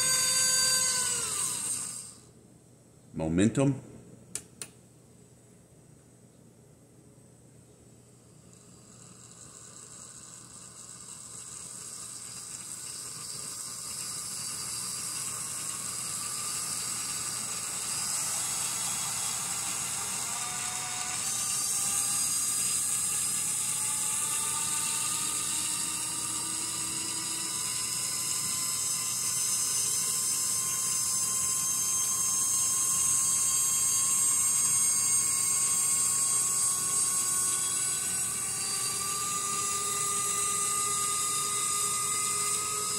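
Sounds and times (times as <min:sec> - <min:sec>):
model train motor whirring: 0:00.0 - 0:02.2, 0:08.4 - 0:42.9.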